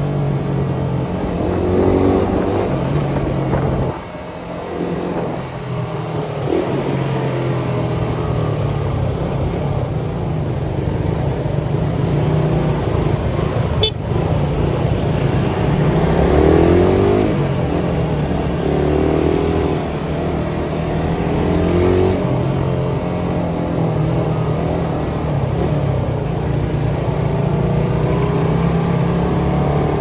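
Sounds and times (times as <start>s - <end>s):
motorcycle engine revving: 0.0s - 10.2s, 10.8s - 30.0s.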